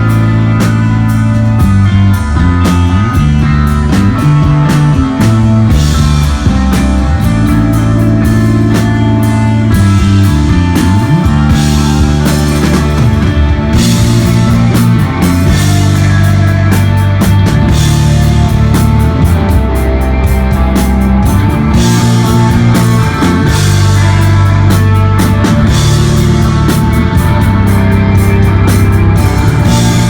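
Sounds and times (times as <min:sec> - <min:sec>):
rock band playing loud: 0:00.0 - 0:30.0.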